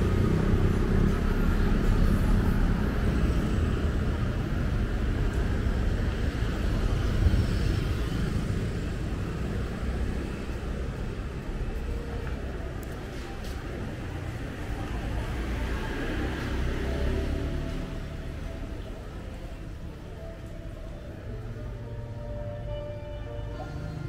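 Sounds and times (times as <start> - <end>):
passing vehicle engines rumbling: 0.0 - 24.0.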